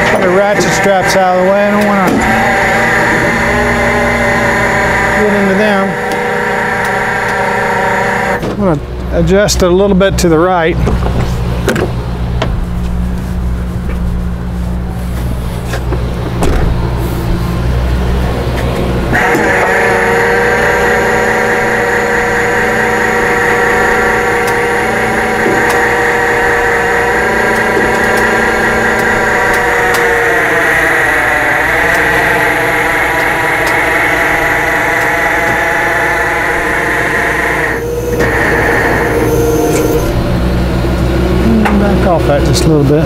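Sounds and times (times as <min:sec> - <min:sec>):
hydraulic pump whining: 0:00.0 - 0:43.0.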